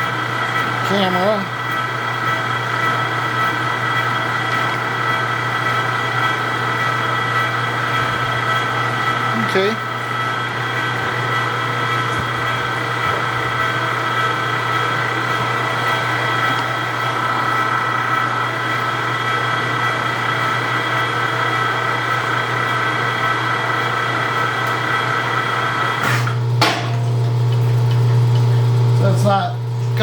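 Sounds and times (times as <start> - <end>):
metal lathe whine: 0.0 - 30.0.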